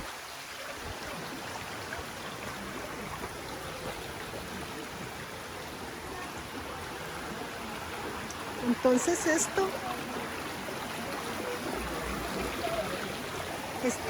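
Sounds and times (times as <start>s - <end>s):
flooded creek rushing: 0.0s - 14.0s.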